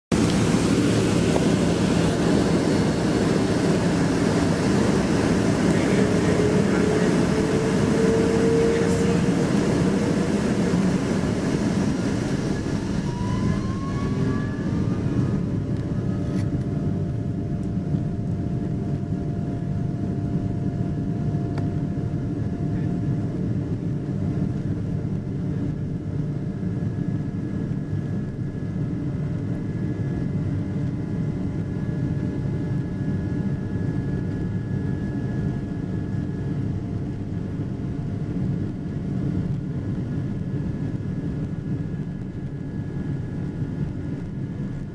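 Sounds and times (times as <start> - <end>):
jet airliner engine rumble and whine: 0.1 - 44.9.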